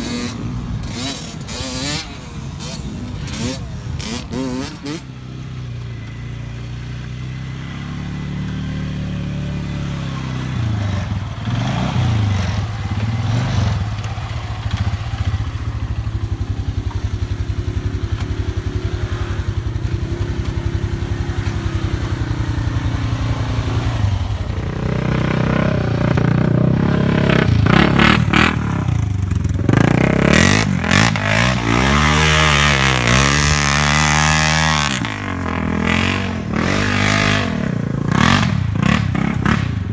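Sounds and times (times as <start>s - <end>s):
off-road engine revving: 0.0s - 39.9s
engine clatter: 5.7s - 39.9s.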